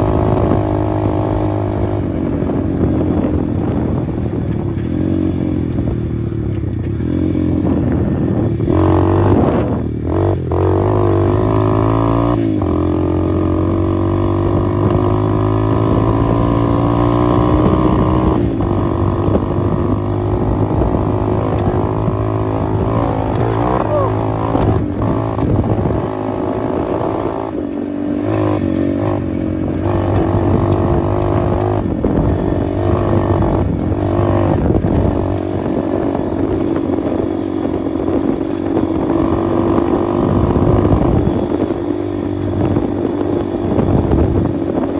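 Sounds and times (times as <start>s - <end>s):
motorbike engine revving: 0.0s - 44.9s.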